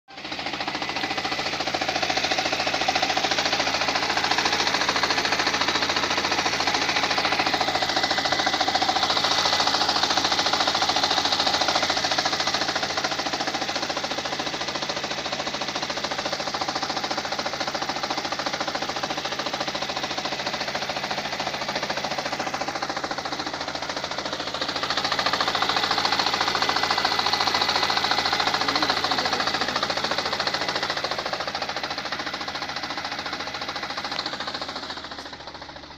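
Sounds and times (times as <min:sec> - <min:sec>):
car engine running rough: 0:00.0 - 0:35.9.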